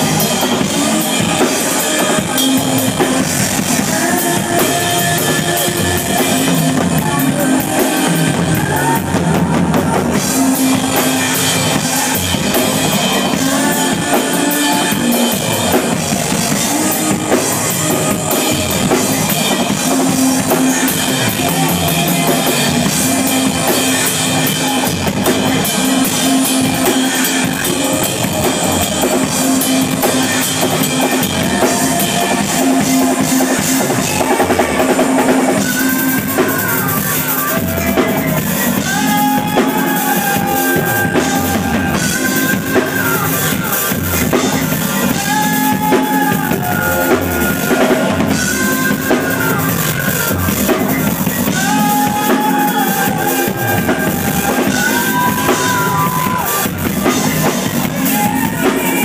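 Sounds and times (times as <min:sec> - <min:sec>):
drum kit with cymbals: 0:00.0 - 0:59.0
live band playing: 0:00.0 - 0:59.0
melody of held notes: 0:00.0 - 0:59.0.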